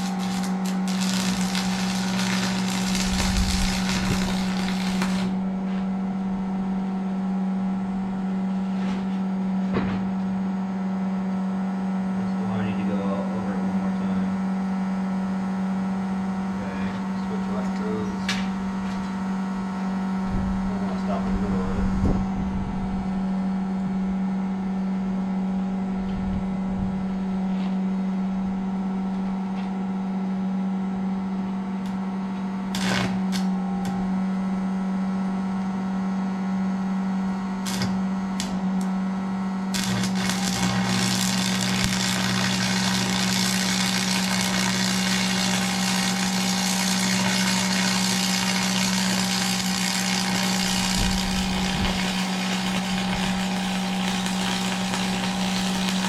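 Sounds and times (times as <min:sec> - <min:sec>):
motor hum: 0:00.0 - 0:08.6, 0:14.5 - 0:56.0.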